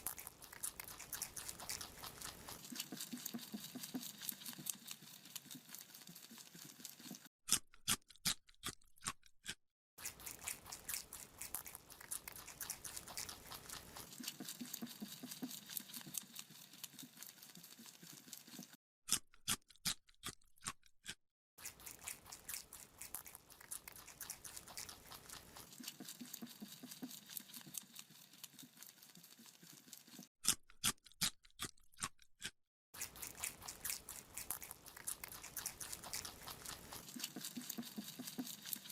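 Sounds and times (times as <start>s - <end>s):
rabbit chewing a carrot: 0.0s - 38.9s.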